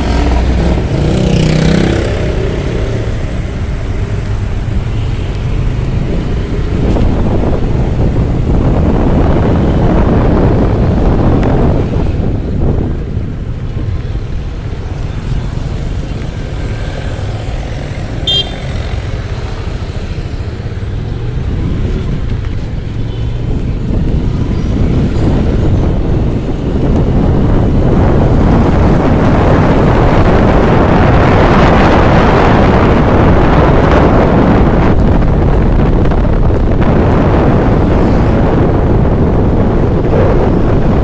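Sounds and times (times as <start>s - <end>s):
motorbike engine and road noise: 0.0s - 41.0s
wind buffeting microphone: 0.0s - 41.0s.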